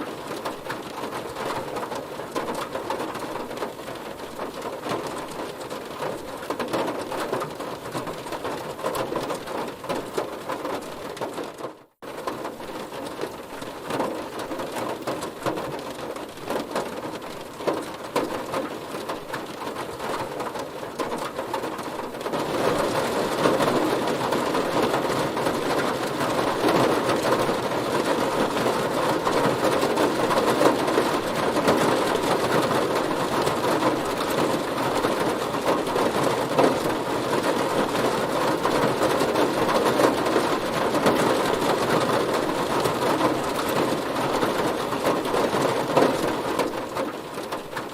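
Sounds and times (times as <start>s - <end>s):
heavy rain drumming on a car: 0.0s - 47.9s.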